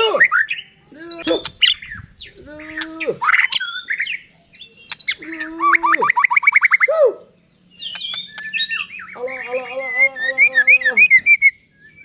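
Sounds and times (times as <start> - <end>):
bird singing whistled song: 0.2 - 12.0.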